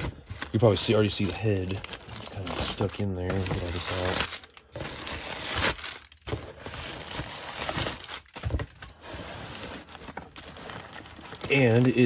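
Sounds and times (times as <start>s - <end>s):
paper and plastic rustling: 0.0s - 12.0s.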